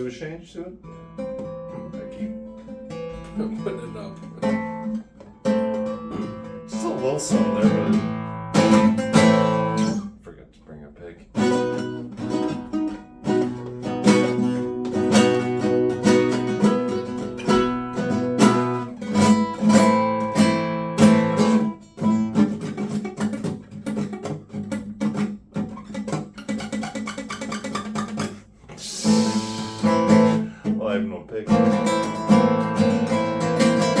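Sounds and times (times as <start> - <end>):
fingerpicked acoustic guitar: 0.8 - 10.2, 11.1 - 34.0.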